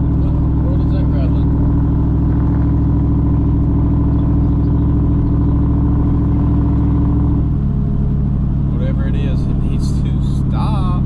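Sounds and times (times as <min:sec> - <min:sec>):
pickup truck exhaust droning: 0:00.0 - 0:11.0.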